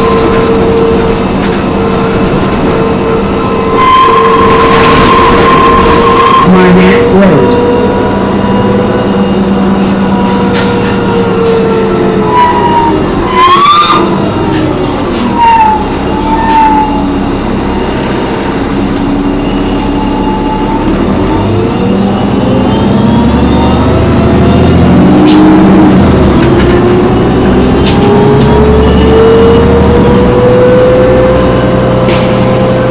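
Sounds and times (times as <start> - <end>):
bus brakes screeching whine: 0.0 - 25.7, 27.9 - 32.9
diesel engine rumble: 0.0 - 32.9.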